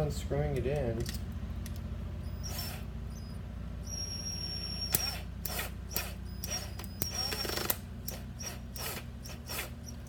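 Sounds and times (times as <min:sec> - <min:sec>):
screw squeaking and creaking: 0:01.0 - 0:10.0.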